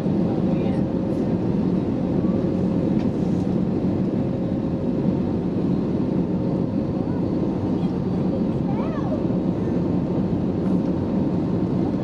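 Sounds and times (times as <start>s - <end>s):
airplane cabin engine noise: 0.0s - 12.0s.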